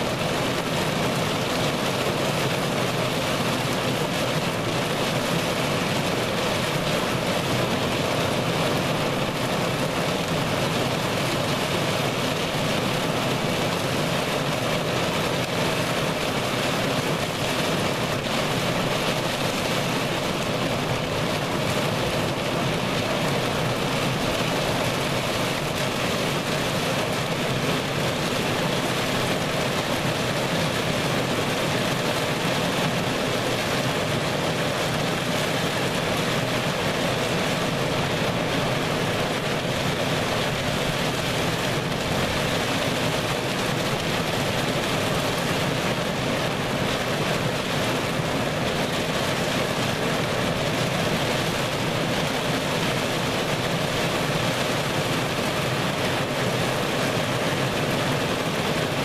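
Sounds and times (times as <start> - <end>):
heavy rain on a vehicle roof: 0.0 - 59.0.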